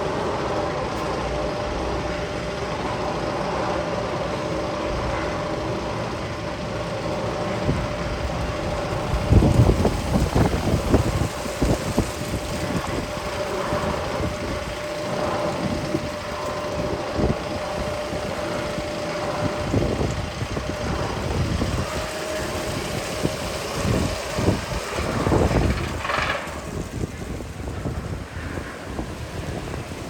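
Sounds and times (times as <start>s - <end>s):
roller coaster rumbling on track: 0.0s - 30.0s
steady hum: 0.0s - 30.0s
wind buffeting microphone: 4.7s - 30.0s.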